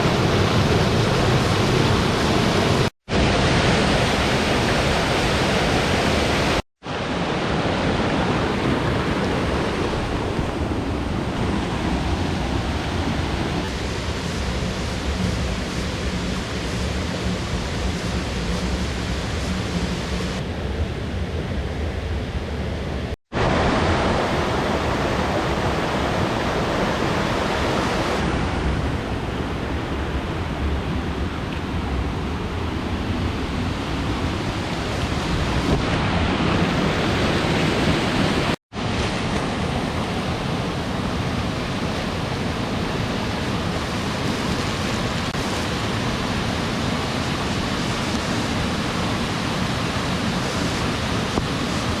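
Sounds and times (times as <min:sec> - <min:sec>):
rushing water: 0:00.0 - 0:22.6, 0:23.3 - 0:52.0.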